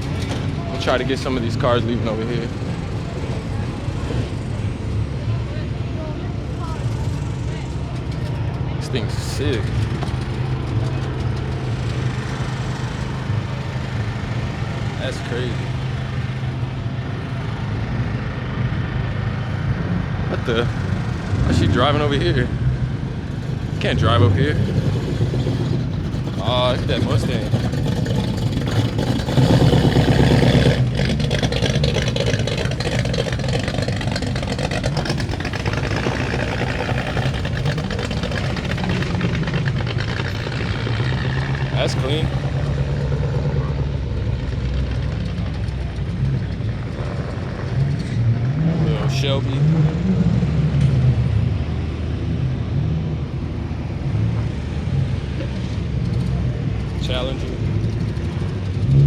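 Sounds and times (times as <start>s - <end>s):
car engine running at low revs: 0.0s - 59.0s.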